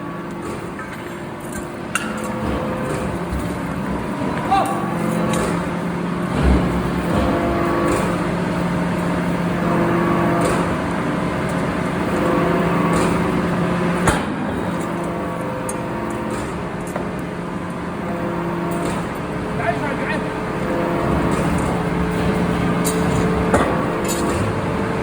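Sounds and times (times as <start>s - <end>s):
factory machinery humming: 0.0s - 25.0s.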